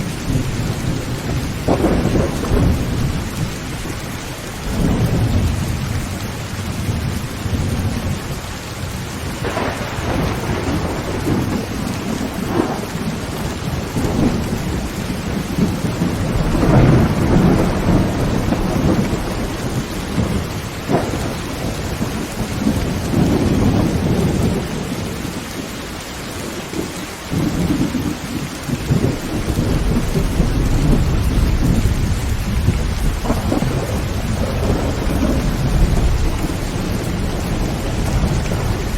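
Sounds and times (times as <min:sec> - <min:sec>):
thunder: 0:00.0 - 0:03.9, 0:09.2 - 0:25.4, 0:26.8 - 0:38.9
rain on a tin roof: 0:00.0 - 0:38.9.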